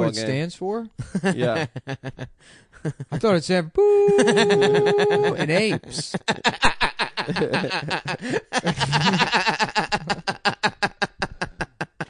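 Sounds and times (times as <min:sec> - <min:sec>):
men laughing: 0:01.0 - 0:12.0.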